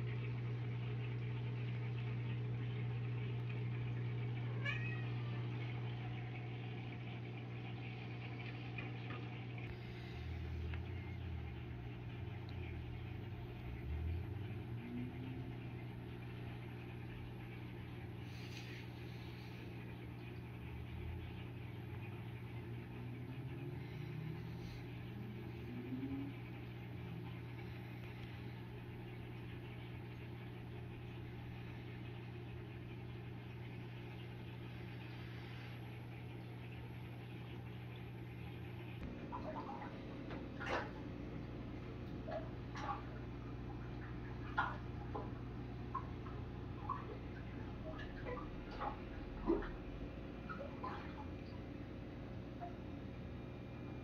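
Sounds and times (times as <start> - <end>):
aquarium equipment humming: 0.0 - 54.0
low rumbling: 9.3 - 54.0.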